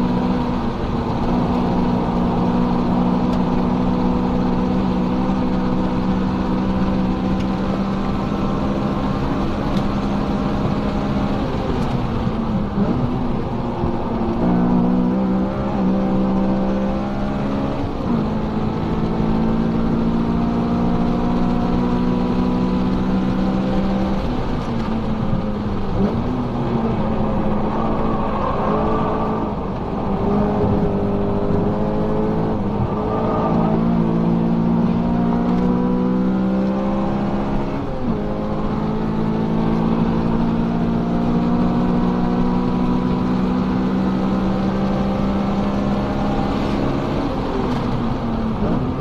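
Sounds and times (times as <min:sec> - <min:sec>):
car engine running hard: 0:00.0 - 0:49.0.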